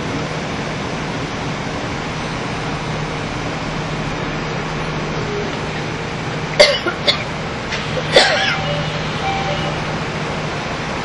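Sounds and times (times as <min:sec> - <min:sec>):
low engine hum: 0:00.0 - 0:11.0
wheel and rail noise: 0:00.0 - 0:11.0.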